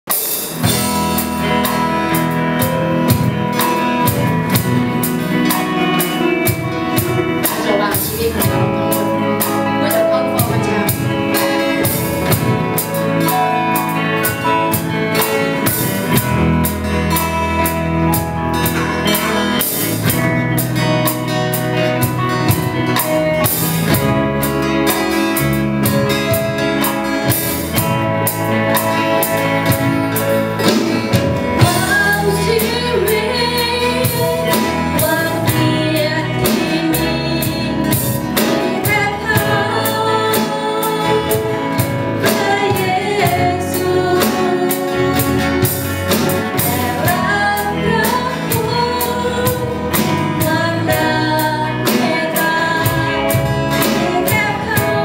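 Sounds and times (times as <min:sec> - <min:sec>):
drum kit beat: 0:00.0 - 0:55.0
electric guitar: 0:00.0 - 0:55.0
strummed acoustic guitar: 0:00.1 - 0:55.0.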